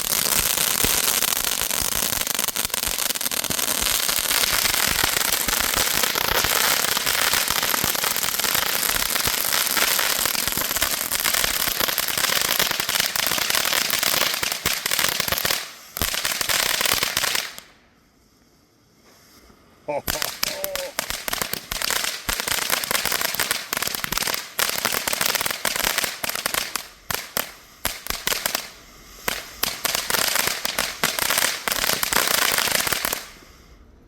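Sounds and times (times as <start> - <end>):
firework fountains hissing and crackling: 0.0 - 17.8, 19.1 - 33.9.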